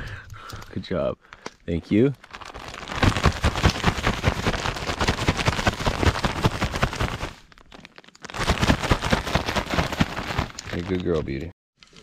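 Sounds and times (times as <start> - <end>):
plastic bag crinkling and rattling: 2.2 - 12.0.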